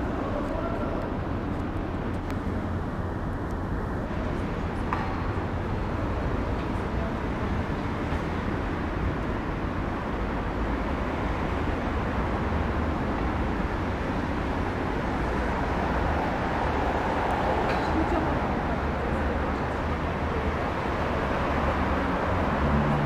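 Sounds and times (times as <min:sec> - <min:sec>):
low rumble of city traffic: 0:00.0 - 0:23.0.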